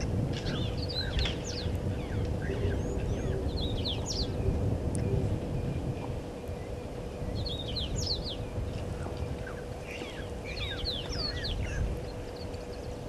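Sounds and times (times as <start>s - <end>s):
faint steady hum: 0.0s - 13.0s
small birds chirping: 0.0s - 13.0s
steady low rumble: 0.0s - 13.0s.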